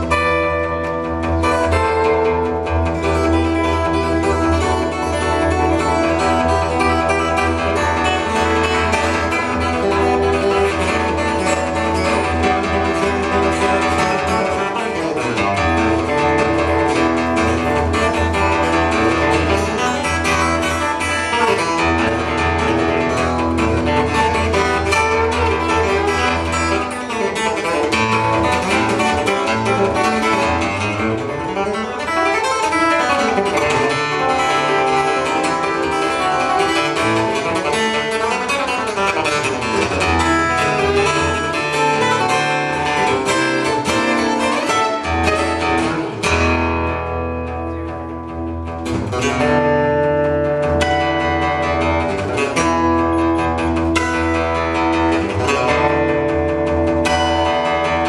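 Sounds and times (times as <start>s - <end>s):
fingerstyle acoustic guitar: 0.0s - 58.0s.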